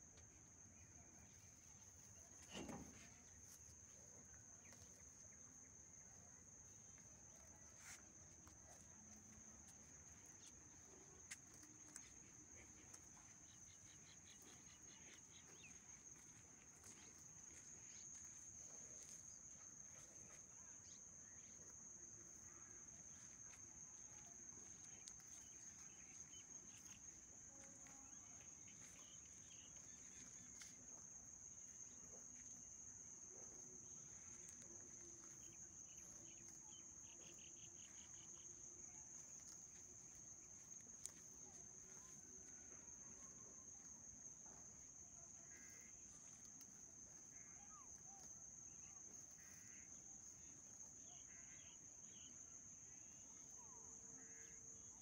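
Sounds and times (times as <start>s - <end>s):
insect chorus: 0.0s - 55.0s.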